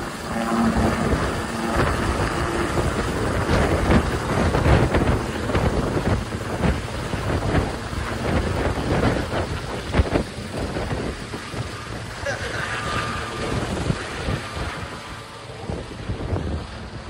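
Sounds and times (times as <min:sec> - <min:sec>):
helicopter rotor and engine: 0:00.0 - 0:17.0
wind noise on microphone: 0:00.0 - 0:17.0.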